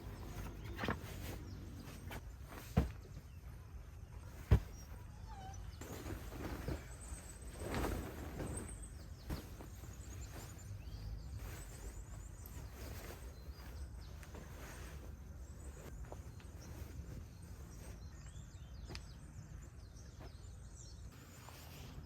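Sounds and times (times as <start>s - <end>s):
rustling: 0.0s - 19.6s
faint high chirping: 0.0s - 22.0s.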